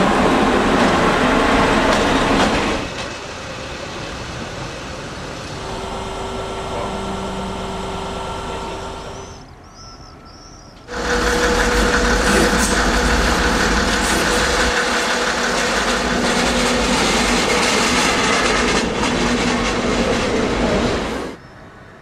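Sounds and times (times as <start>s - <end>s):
train wheels on rails: 0.0s - 21.4s
locomotive whine: 0.0s - 21.5s.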